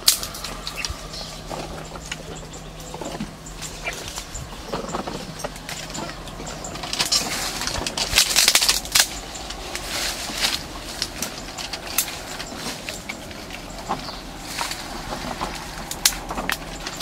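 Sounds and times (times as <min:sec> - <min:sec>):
twigs and leaves crackling: 0:00.0 - 0:17.0.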